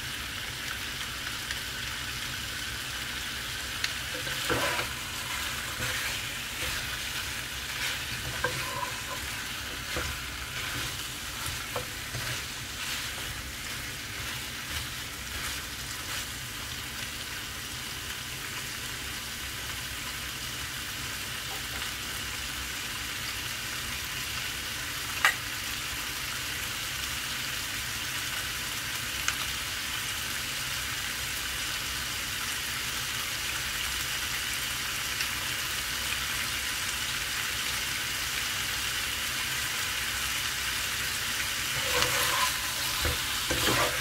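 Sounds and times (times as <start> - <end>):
chicken sizzling in a pan: 0.0 - 44.0.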